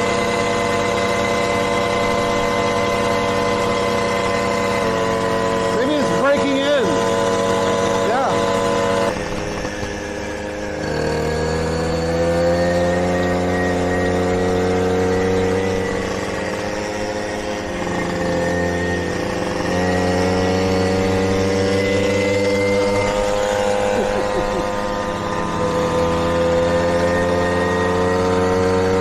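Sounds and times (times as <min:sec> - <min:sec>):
moped engine running: 0:00.0 - 0:29.0.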